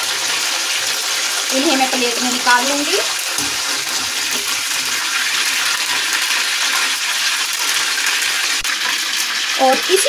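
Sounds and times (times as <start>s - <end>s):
oil sizzling while deep-frying: 0.0s - 10.0s.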